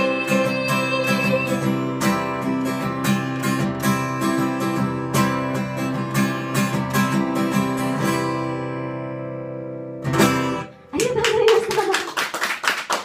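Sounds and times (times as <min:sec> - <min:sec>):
acoustic guitar strumming: 0:00.0 - 0:10.9.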